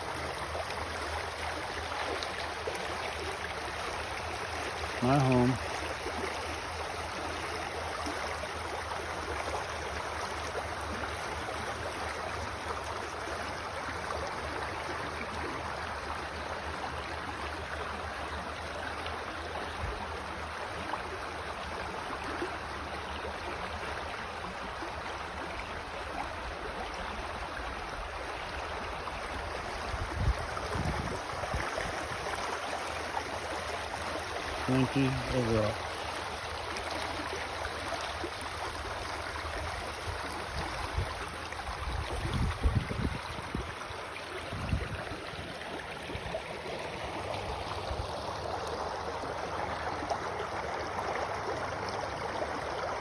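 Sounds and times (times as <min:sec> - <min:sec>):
creek water running over rocks: 0:00.0 - 0:53.0.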